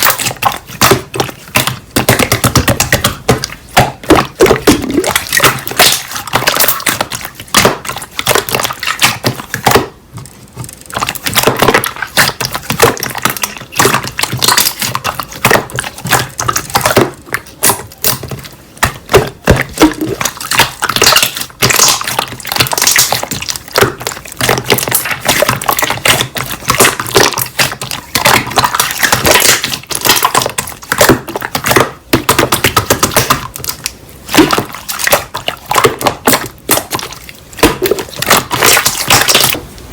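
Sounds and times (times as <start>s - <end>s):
slime being squeezed: 0.0s - 39.7s.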